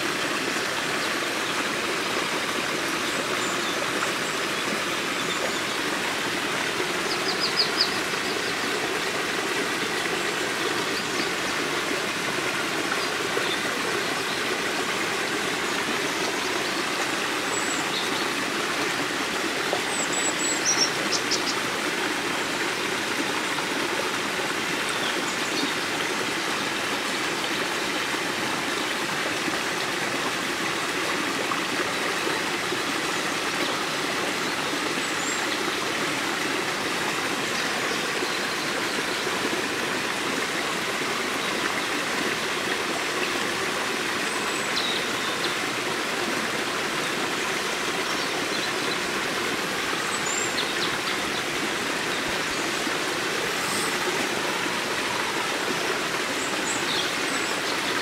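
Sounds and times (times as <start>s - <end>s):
stream babbling over rocks: 0.0s - 58.0s.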